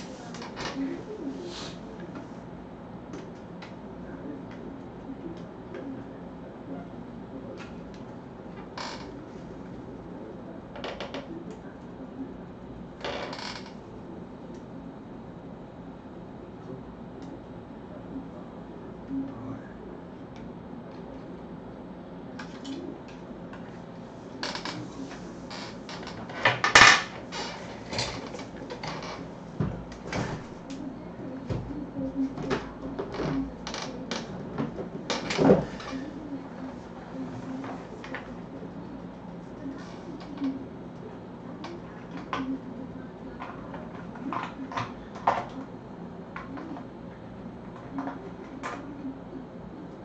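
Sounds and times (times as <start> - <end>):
faint low hum: 0.0 - 50.0.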